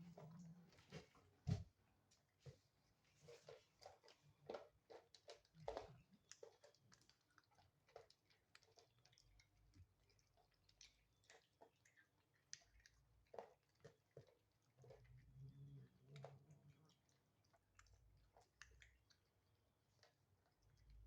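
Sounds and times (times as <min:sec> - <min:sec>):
cats chewing food: 0:00.0 - 0:21.0.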